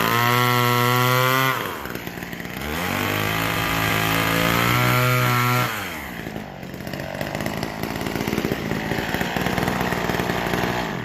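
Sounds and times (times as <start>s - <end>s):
chainsaw revving and cutting: 0.0s - 11.0s.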